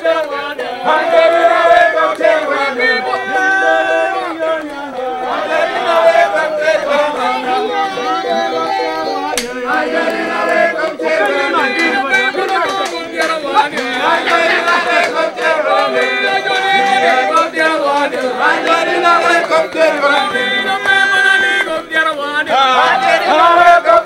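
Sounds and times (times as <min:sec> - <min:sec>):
group singing in chorus: 0:00.0 - 0:24.0.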